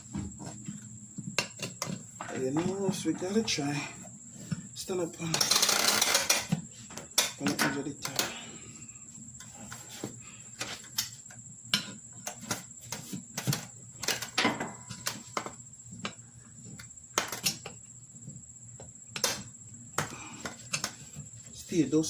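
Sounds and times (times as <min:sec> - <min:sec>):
insect trill: 0:00.0 - 0:22.0.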